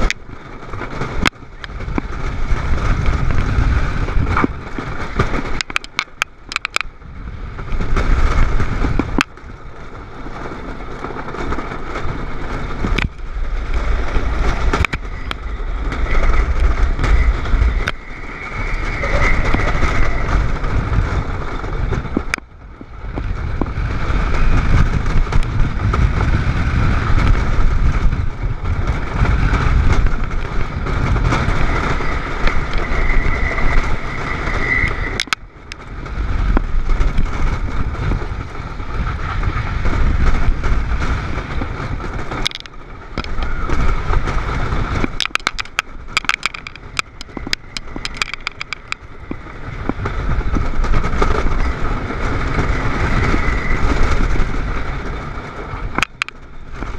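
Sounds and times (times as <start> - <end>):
roller coaster rumbling on track: 0.0 - 56.9
sharp track clacks: 0.0 - 56.9.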